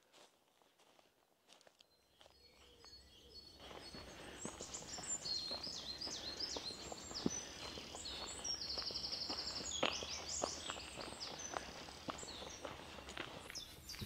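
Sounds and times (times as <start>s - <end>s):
songbirds singing: 1.8s - 14.0s.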